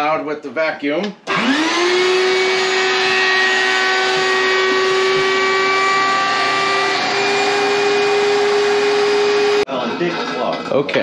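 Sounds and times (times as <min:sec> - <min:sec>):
vacuum motor whining: 0:01.3 - 0:10.5.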